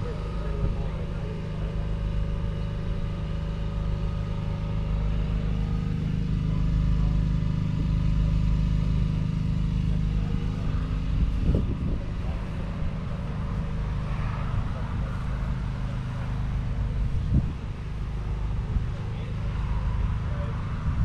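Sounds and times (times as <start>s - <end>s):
tractor diesel engine idling: 0.0s - 21.0s.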